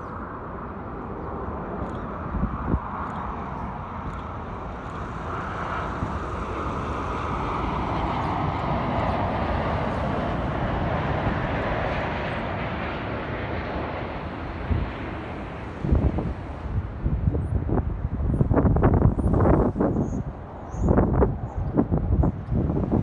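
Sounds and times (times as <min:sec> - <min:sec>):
airliner engine passing by: 0:00.0 - 0:23.0.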